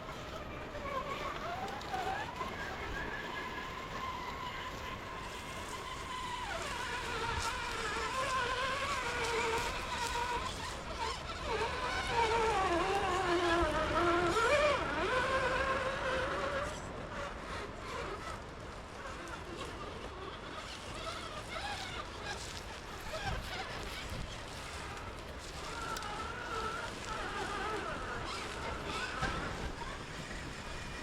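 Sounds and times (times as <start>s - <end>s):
electric motors whining: 0.0s - 31.0s.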